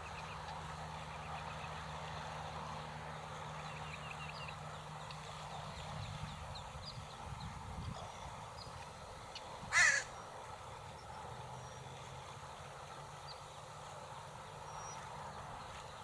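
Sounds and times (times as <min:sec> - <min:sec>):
low hum with faint rush: 0:00.0 - 0:16.0.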